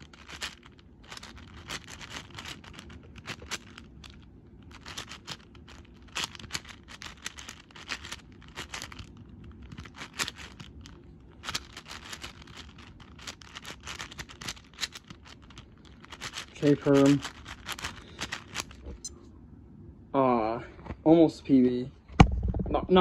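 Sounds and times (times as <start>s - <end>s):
puzzle cube clacking: 0.0s - 19.1s.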